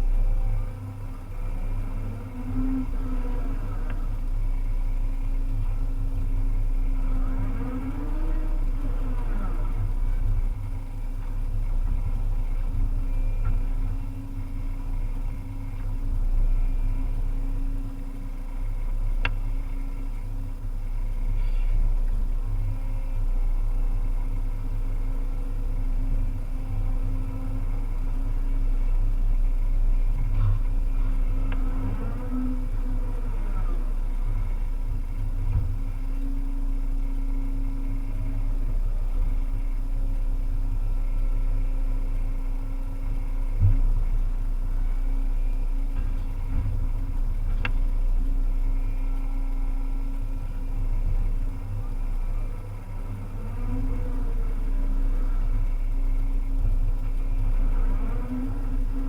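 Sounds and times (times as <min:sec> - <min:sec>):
engine whine: 0:00.0 - 0:59.0
excavator diesel engine running: 0:00.0 - 0:59.0.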